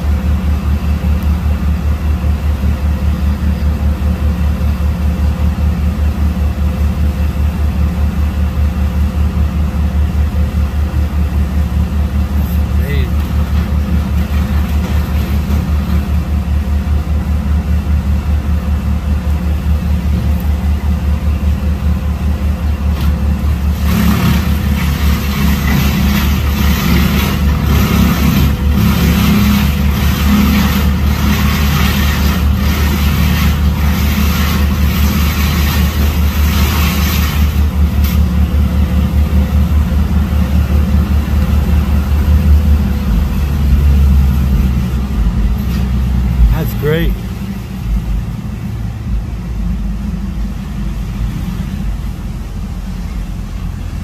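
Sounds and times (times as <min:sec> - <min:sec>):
engine running with low throb: 0:00.0 - 0:54.0.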